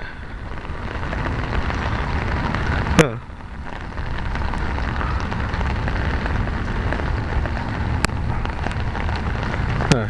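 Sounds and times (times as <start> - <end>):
deep rumble: 0.0 - 10.0
heavy rain falling: 0.0 - 10.0.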